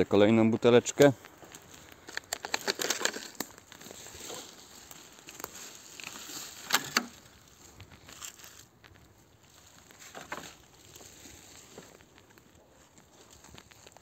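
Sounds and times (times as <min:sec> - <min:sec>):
footsteps on dry forest litter: 0:00.5 - 0:14.0
rustling of handling: 0:00.6 - 0:14.0
plastic bag rustling: 0:01.3 - 0:14.0.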